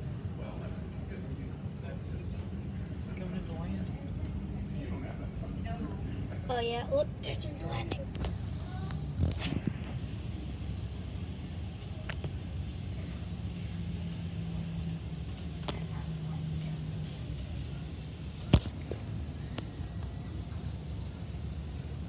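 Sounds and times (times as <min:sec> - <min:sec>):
jet airliners rumbling: 0:00.0 - 0:22.0.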